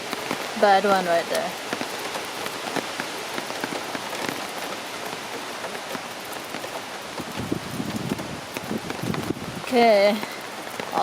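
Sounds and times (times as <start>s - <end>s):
heavy rain hissing: 0.0s - 11.0s
raindrops pattering on hard surfaces: 0.0s - 11.0s
low wind rumble: 1.3s - 11.0s.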